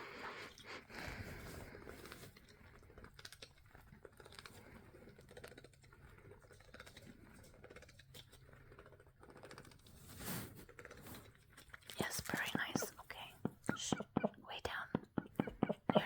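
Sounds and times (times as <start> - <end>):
faint soft ticks and rustles: 0.5 - 16.0.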